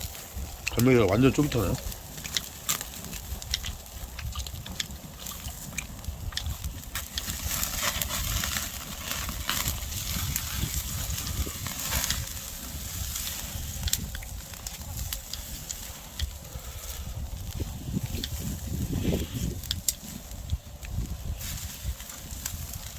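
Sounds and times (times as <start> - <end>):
campfire crackling and popping: 0.0 - 22.9
wind rumble on microphone: 0.0 - 22.9.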